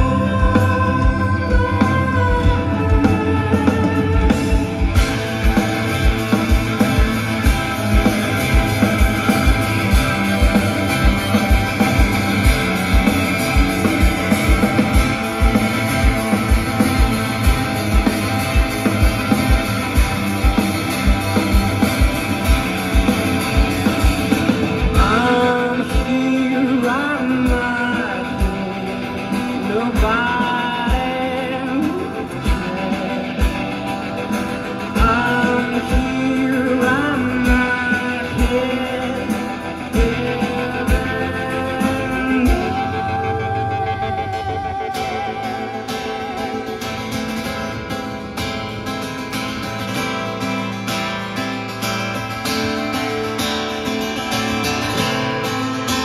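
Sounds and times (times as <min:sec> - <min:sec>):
rock band playing live: 0:00.0 - 0:56.0
sliding rising guitar notes: 0:00.0 - 0:56.0.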